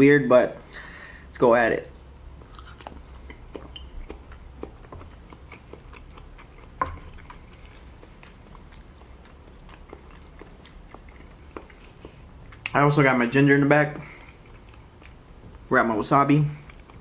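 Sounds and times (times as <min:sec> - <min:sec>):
wet chewing mouth sounds: 0:02.3 - 0:17.0.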